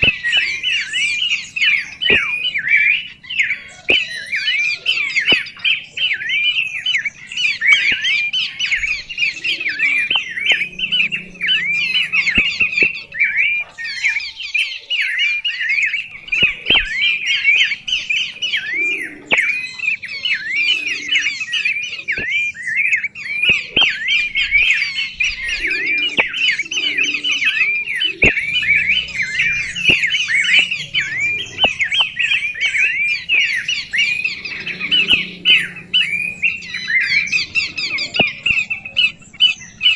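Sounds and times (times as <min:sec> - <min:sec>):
songbird chattering: 0:00.0 - 0:39.9.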